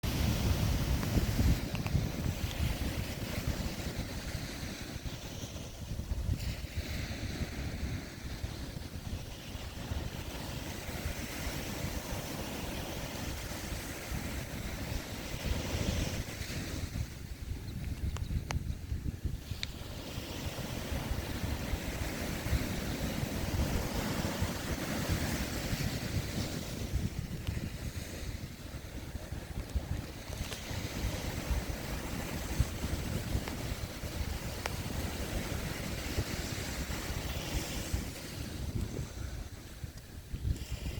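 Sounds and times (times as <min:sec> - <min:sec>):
ocean surf hiss: 0:00.0 - 0:17.6, 0:18.7 - 0:40.9
wave washing in: 0:00.0 - 0:17.7, 0:18.6 - 0:40.9
wind buffeting microphone: 0:00.0 - 0:40.9.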